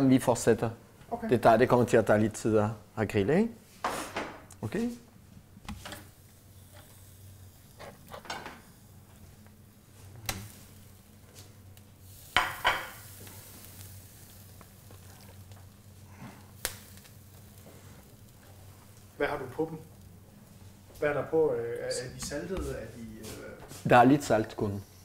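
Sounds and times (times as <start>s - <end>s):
faint sizzle: 0.0s - 25.0s.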